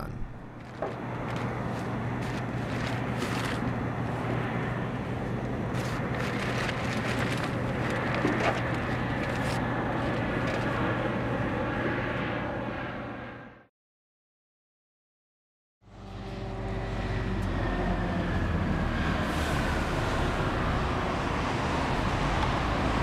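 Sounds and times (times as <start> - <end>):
engine-like drone: 0.0 - 13.7, 15.8 - 23.0.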